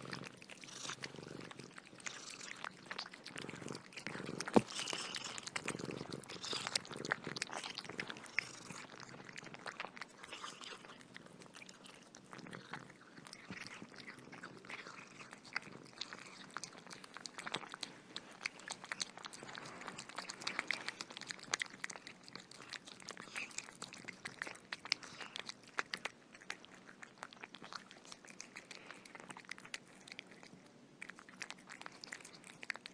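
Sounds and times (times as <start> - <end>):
crunchy chewing: 0.0 - 32.9.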